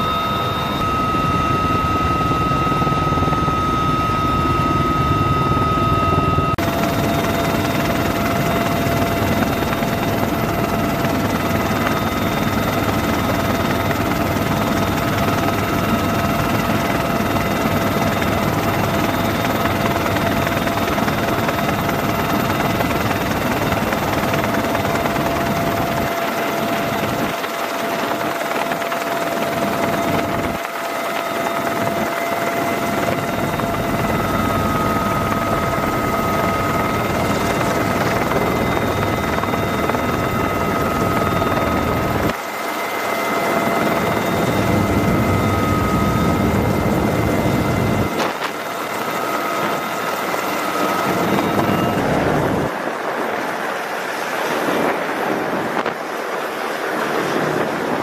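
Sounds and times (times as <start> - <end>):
helicopter engine and rotor drone: 0.0 - 58.0
turbine whine: 0.0 - 58.0.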